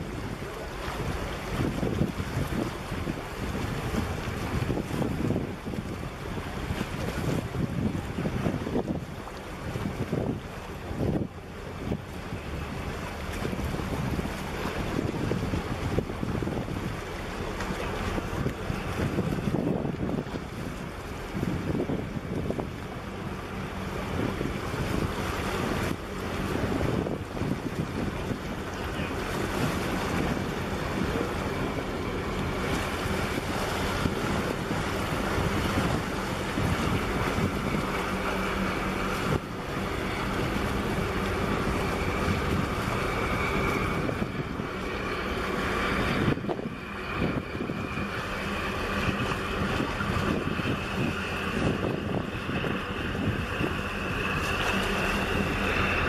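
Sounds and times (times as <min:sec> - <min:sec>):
sea water washing against rocks: 0:00.0 - 0:56.0
wind buffeting microphone: 0:00.0 - 0:56.0.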